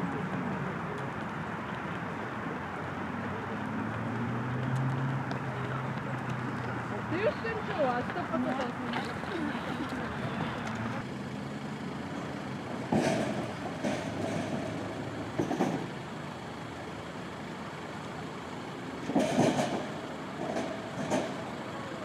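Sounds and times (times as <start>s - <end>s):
heavy road vehicle: 0.0s - 22.0s
street noise: 0.0s - 22.0s.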